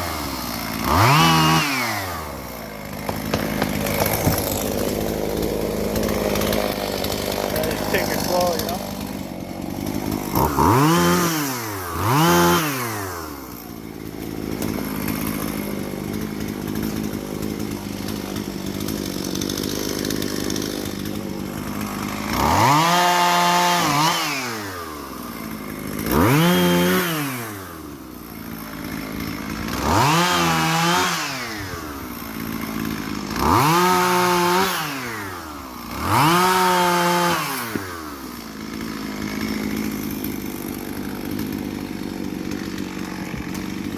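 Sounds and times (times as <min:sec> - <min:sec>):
chainsaw idling and revving: 0:00.0 - 0:43.9.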